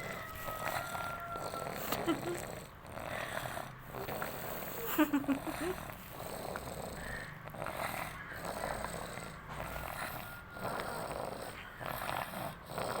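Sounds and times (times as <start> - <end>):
raspy snoring: 0.0 - 13.0.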